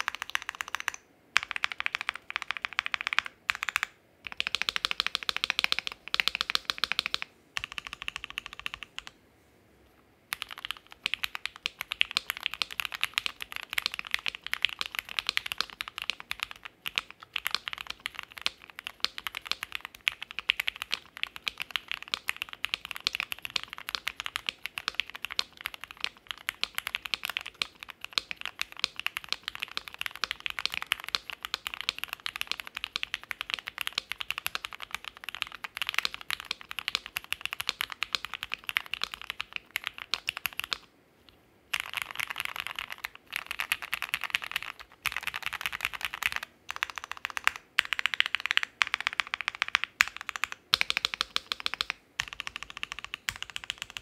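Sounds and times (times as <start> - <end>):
mechanical keyboard typing: 0.0 - 9.1, 10.3 - 40.9, 41.7 - 54.0.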